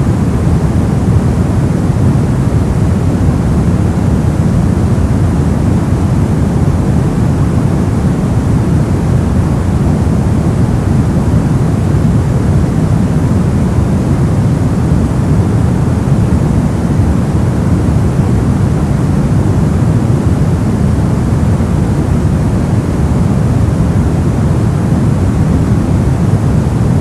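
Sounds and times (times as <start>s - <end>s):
deep rumbling brown noise: 0.0s - 27.0s.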